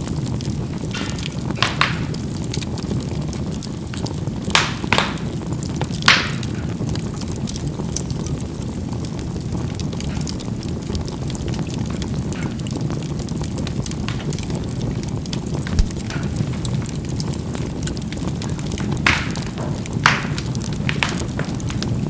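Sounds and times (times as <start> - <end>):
fire crackling pops: 0.0 - 22.0
low rush of flame: 0.0 - 22.0.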